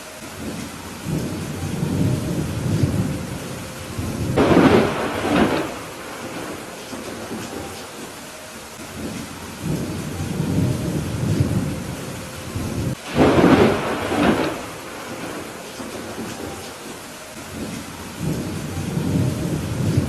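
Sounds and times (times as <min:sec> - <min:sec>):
steady rain: 0:00.0 - 0:20.0
rolling thunder: 0:00.4 - 0:08.2, 0:08.9 - 0:20.0.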